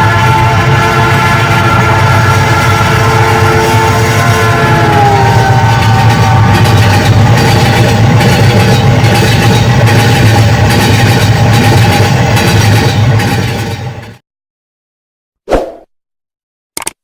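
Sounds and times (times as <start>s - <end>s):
train engine humming: 0.0s - 14.1s.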